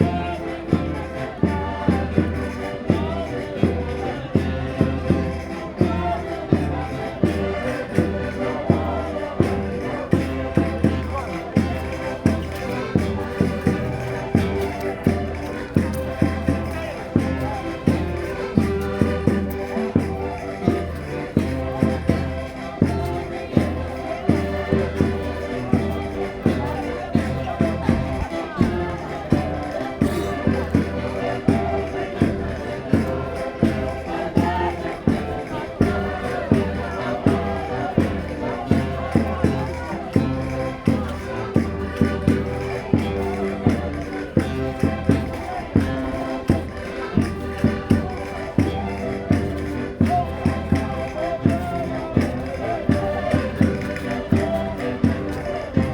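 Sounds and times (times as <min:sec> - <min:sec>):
button accordions playing folk tune: 0:00.0 - 0:55.9.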